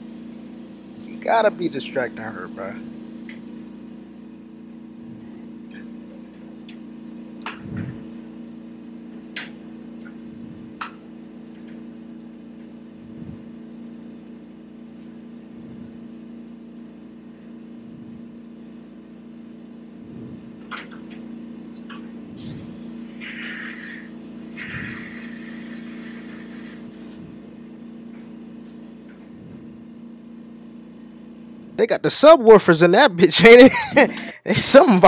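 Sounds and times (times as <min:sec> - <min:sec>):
electric hum of equipment: 0:00.0 - 0:35.0.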